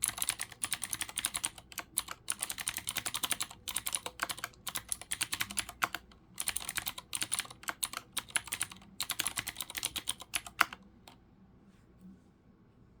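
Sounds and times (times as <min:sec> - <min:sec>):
clicky mechanical keyboard typing: 0:00.0 - 0:11.2.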